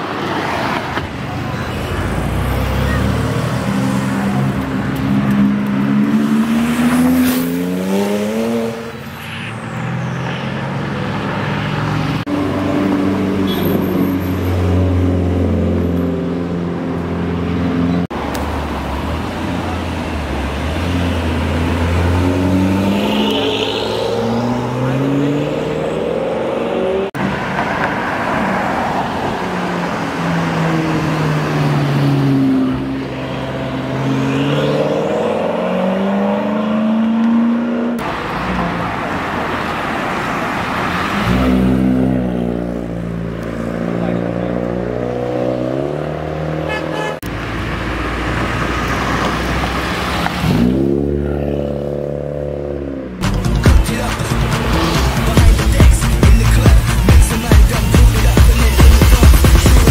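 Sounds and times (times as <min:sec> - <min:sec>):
cars accelerating past: 0:00.0 - 0:53.2, 0:54.1 - 0:59.9.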